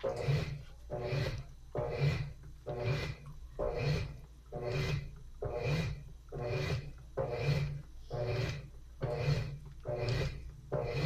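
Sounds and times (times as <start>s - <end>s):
washing machine agitating: 0.0s - 11.0s.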